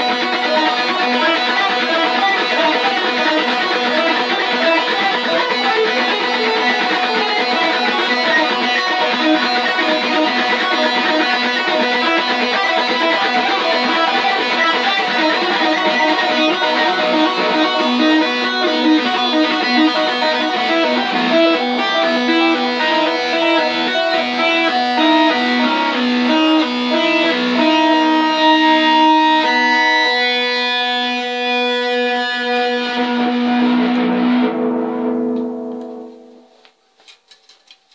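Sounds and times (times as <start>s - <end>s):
electric guitar with echo: 0.0s - 37.9s.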